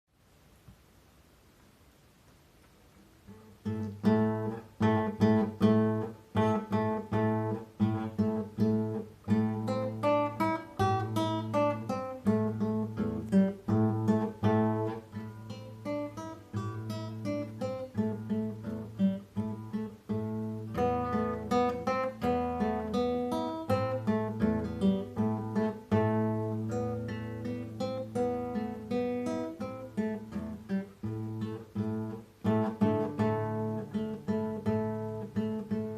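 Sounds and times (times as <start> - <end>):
classical guitar fingerstyle: 2.9 - 35.9.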